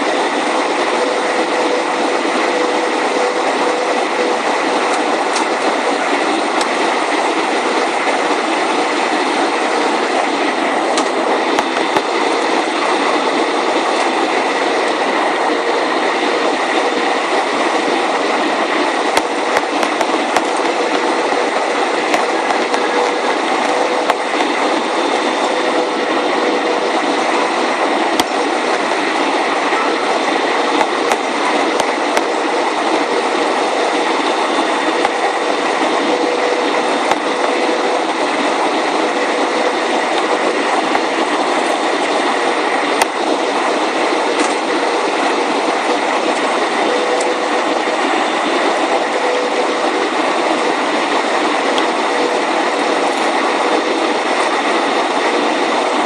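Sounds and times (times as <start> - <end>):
engine and airflow rushing: 0.0 - 56.0
steady droning tone: 0.0 - 56.0.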